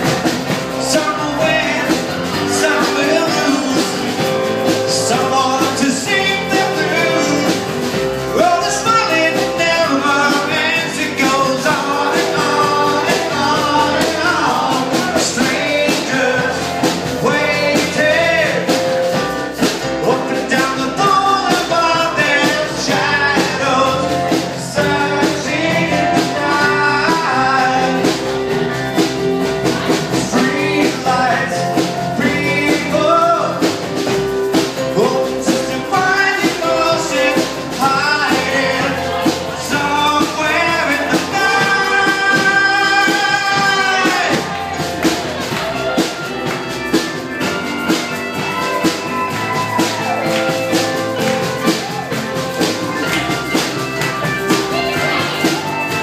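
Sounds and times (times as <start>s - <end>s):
live rock band playing: 0.0s - 56.0s
person singing: 0.0s - 56.0s
steady drum beat: 0.0s - 56.0s.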